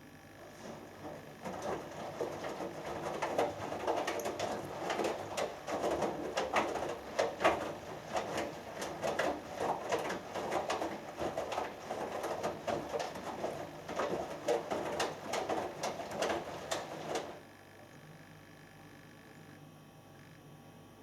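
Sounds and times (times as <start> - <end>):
washing machine drum tumbling: 0.4 - 17.4
water sloshing and splashing: 0.4 - 17.4.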